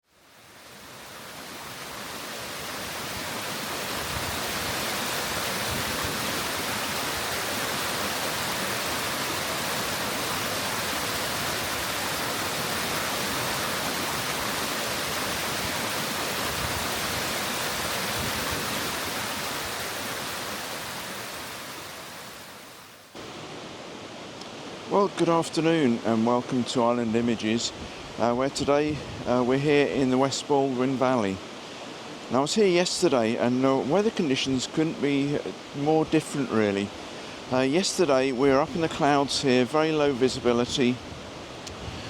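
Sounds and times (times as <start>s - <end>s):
waterfall rushing: 0.1s - 42.0s.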